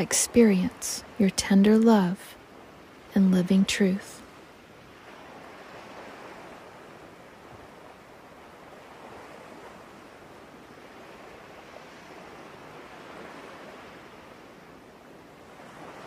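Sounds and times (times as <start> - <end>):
ocean surf waves: 0.0 - 16.0.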